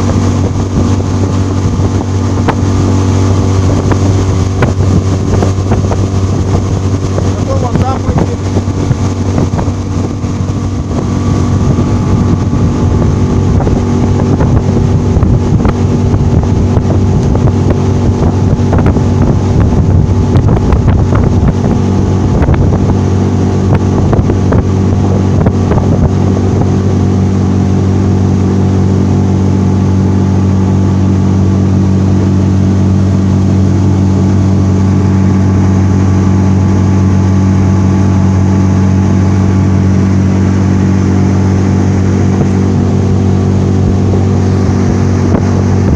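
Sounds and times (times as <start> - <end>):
boat hull knocking and slapping: 0.0 - 45.9
outboard motor running: 0.0 - 45.9.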